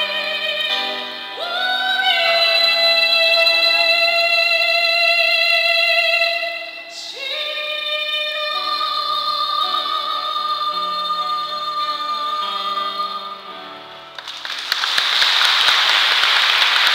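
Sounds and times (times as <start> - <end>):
woman singing into microphone: 0.0 - 13.8.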